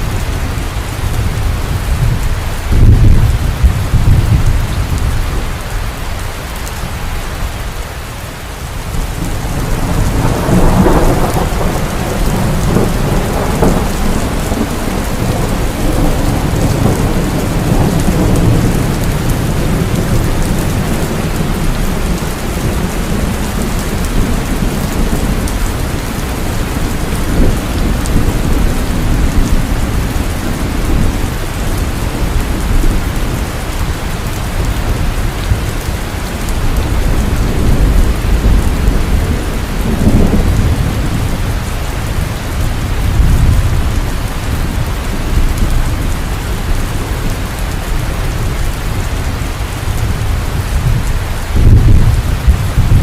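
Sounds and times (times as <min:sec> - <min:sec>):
heavy rain falling: 0:00.0 - 0:53.0
thunder rumbling: 0:00.0 - 0:53.0.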